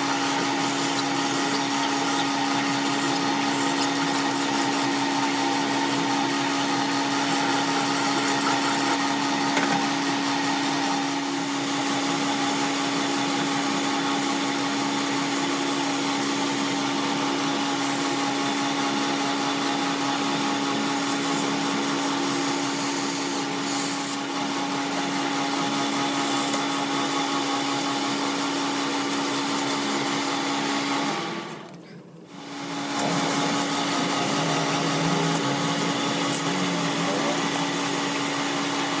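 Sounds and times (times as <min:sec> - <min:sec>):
power tool grinding and humming: 0:00.0 - 0:39.0.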